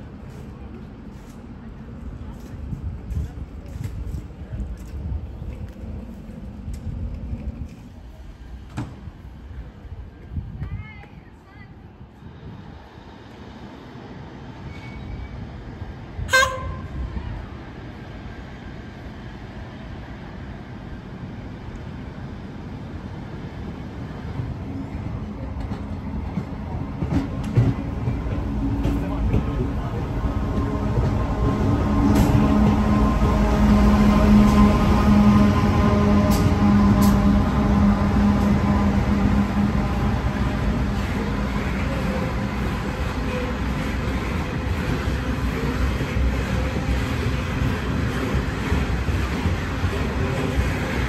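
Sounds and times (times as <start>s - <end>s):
diesel railcar engine and wheels: 0.0s - 51.0s.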